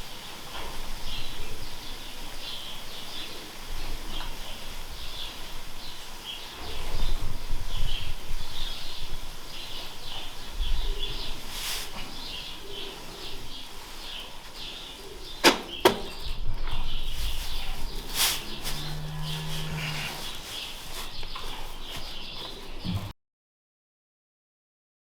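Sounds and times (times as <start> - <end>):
small birds chirping: 0.0 - 23.1.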